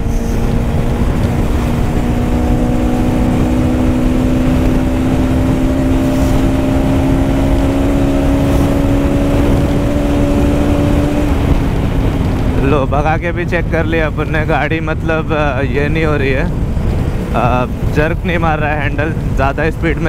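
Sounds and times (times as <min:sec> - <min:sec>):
motorcycle engine at speed: 0:00.0 - 0:20.0
wind rush on microphone: 0:00.0 - 0:20.0.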